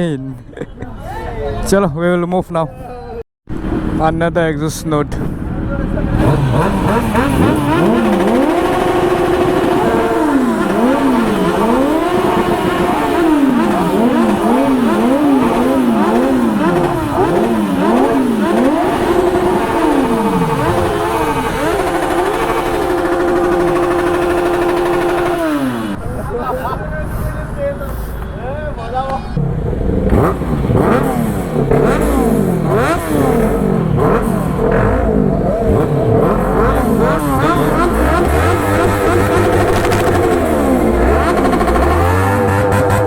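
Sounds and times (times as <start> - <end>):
motorcycle engines revving: 3.5 - 28.4, 29.0 - 43.0.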